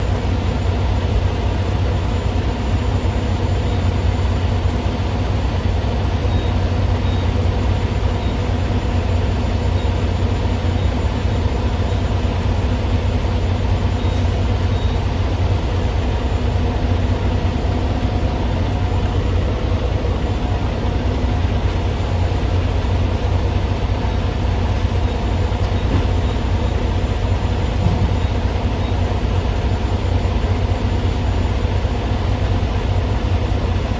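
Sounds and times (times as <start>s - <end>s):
truck engine droning: 0.0s - 33.9s.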